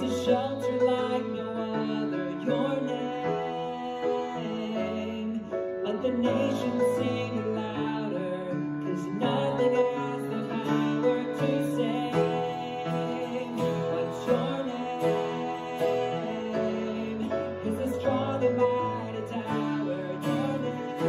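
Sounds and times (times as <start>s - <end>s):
man singing: 0.0s - 21.0s
piano chords: 0.0s - 21.0s
strummed acoustic guitar: 0.0s - 21.0s.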